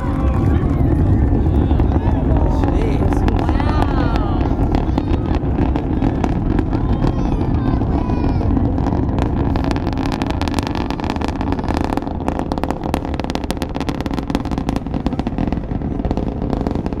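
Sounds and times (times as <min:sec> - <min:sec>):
rocket launch roar: 0:00.0 - 0:17.0.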